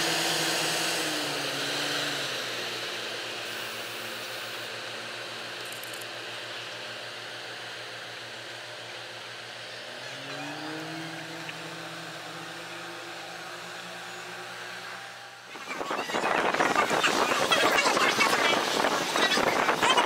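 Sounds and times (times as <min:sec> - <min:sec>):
train motors humming: 0:00.0 - 0:20.0.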